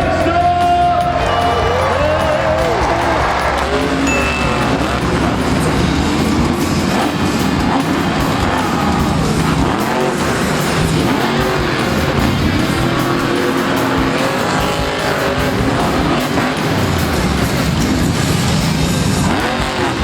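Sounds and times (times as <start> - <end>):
monster truck engines revving: 0.0 - 20.0
music playing: 0.0 - 20.0.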